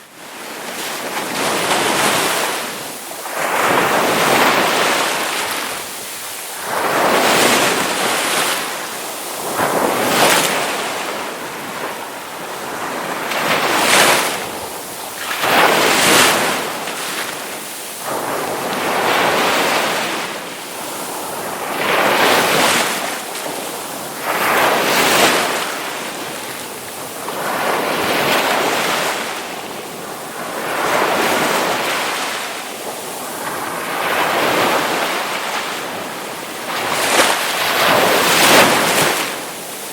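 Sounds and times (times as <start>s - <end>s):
ocean waves crashing: 0.0s - 39.9s.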